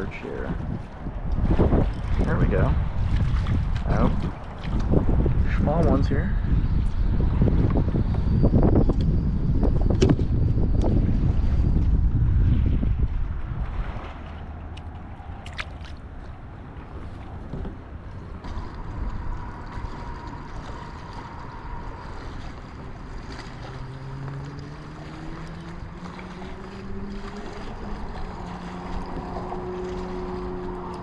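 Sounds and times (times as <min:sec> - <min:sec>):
wind buffeting microphone: 0:00.0 - 0:31.0
faint droning tone rising: 0:06.0 - 0:31.0.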